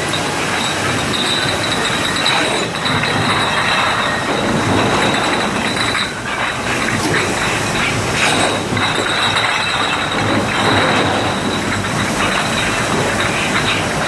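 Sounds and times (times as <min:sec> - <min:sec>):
bottle washing machine running: 0:00.0 - 0:14.0
continuous high whine: 0:00.0 - 0:14.0
metallic clicking and clanking: 0:00.0 - 0:14.0.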